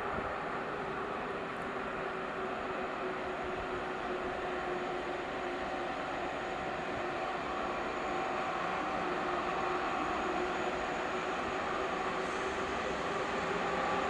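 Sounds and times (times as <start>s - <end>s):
distant electric trains running: 0.0s - 14.0s.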